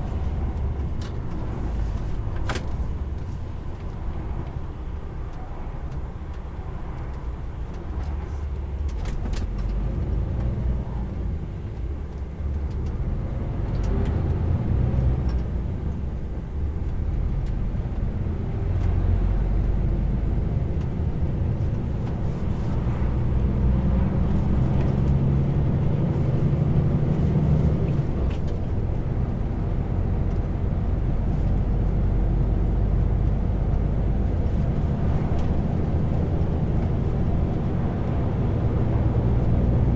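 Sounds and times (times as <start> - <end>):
road noise: 0.0 - 39.9
truck diesel engine rumble: 0.0 - 39.9.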